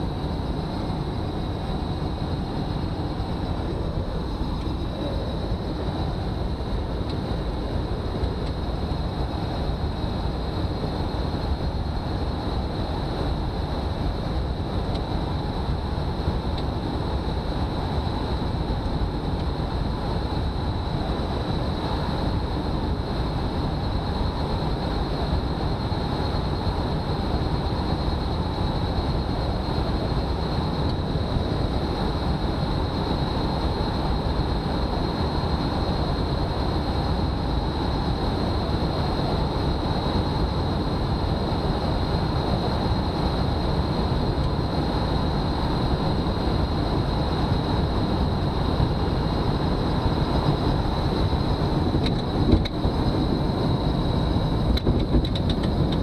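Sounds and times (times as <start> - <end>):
high whine: 0.0 - 56.0
tyres and wind rumble: 0.0 - 56.0.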